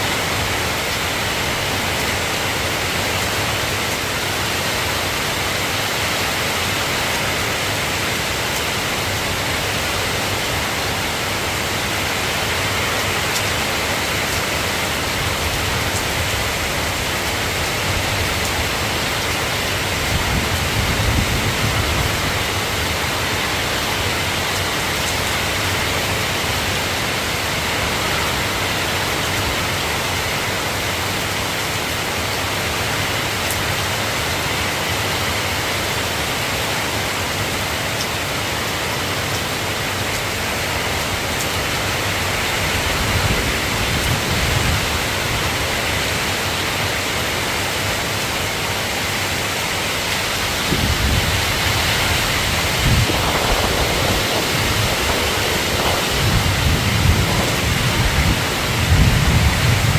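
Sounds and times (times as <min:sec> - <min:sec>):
soft rain falling: 0:00.0 - 0:59.9.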